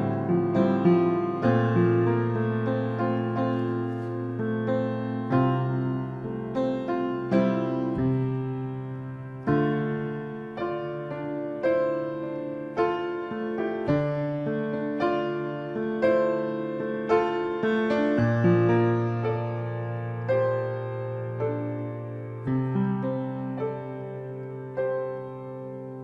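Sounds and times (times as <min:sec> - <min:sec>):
grand piano chords: 0:00.0 - 0:26.0.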